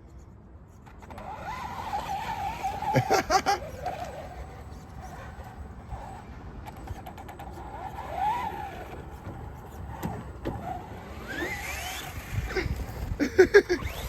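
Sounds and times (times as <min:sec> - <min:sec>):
electric motor whining: 0:01.1 - 0:14.0.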